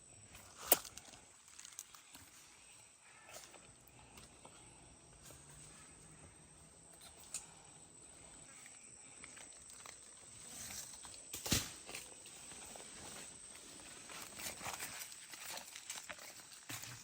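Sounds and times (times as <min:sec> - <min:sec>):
high insect hum: 0:00.0 - 0:17.0.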